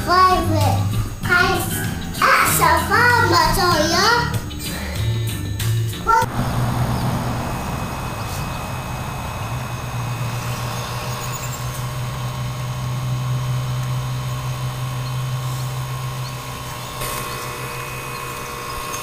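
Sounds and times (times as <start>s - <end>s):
small motor humming: 0.8s - 19.0s.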